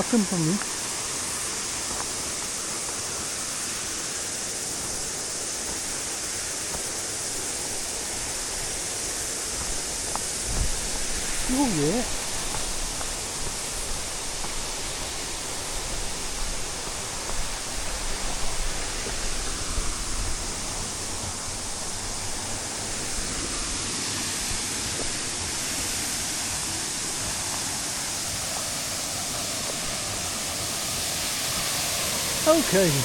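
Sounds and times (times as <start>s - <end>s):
waterfall cascading: 0.0s - 33.0s.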